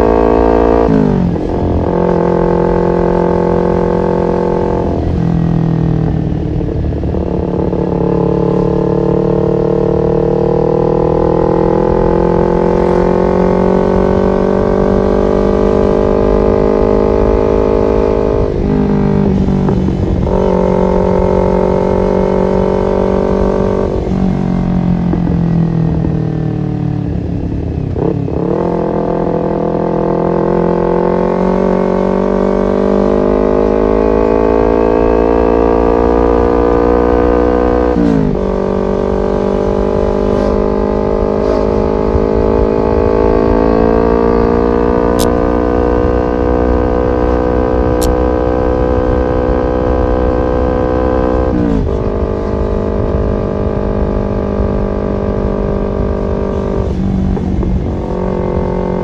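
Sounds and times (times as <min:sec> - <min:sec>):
motorcycle engine under load: 0:00.0 - 0:59.0.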